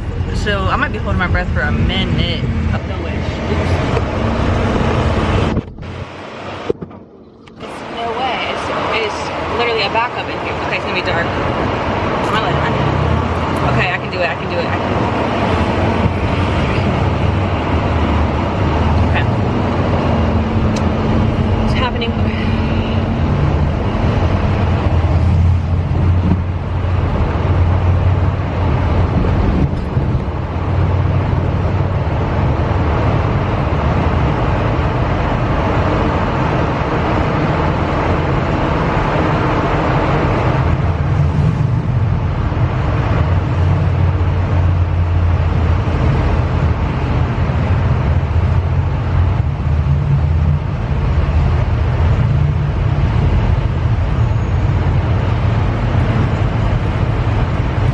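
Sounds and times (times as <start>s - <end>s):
engine and road rumble: 0.0s - 57.9s.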